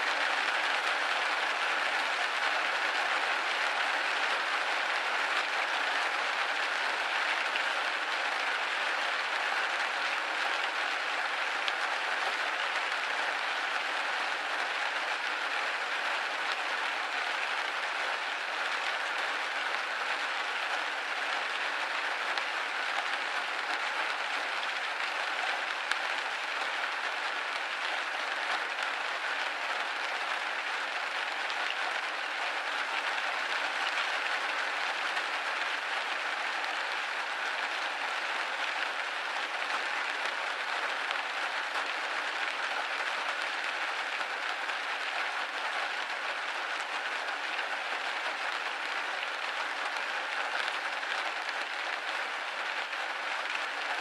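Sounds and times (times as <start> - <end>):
rain hitting a window pane: 0.0 - 54.0.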